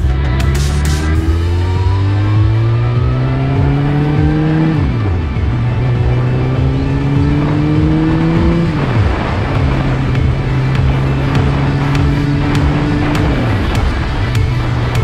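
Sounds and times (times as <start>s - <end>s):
motorcycle engine accelerating: 0.0s - 15.0s
music: 0.0s - 15.0s.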